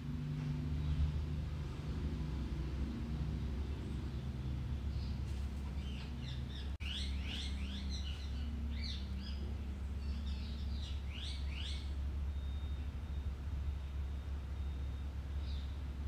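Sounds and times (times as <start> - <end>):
steady low hum: 0.0 - 16.0
small birds chirping: 0.7 - 16.0.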